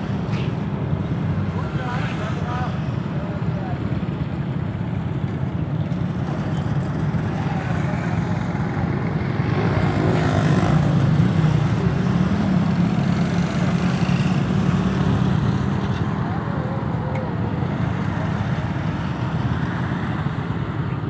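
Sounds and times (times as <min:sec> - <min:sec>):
motorcycles passing: 0:00.0 - 0:21.0.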